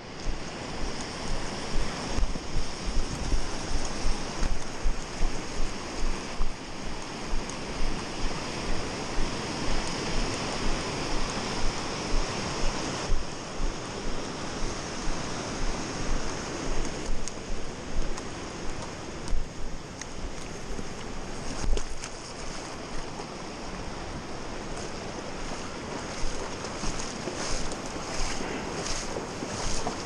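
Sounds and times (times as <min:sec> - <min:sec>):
creek rapids rushing: 0:00.0 - 0:30.0
footsteps on wet rock: 0:00.2 - 0:20.5, 0:25.6 - 0:30.0.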